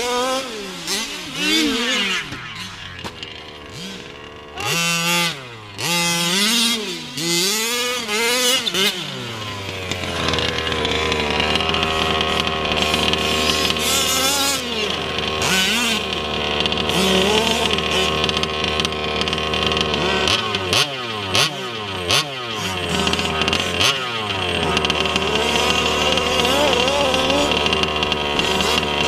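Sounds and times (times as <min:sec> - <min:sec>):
small two-stroke engine revving: 0:00.0 - 0:29.0.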